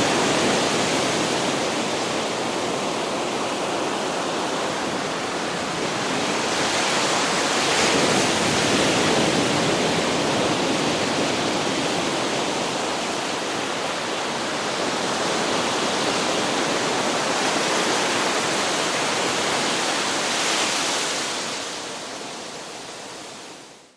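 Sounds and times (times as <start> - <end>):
ocean waves on a beach: 0.0 - 23.9.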